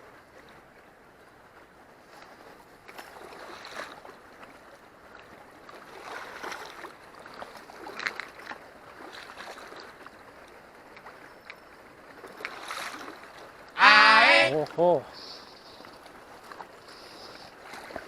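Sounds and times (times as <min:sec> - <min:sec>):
river water sloshing and splashing: 0:00.0 - 0:18.0.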